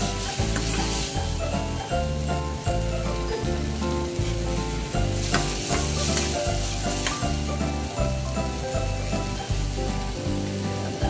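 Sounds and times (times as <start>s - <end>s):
background music with bass: 0.0s - 11.0s
food sizzling in a pan: 0.0s - 11.0s.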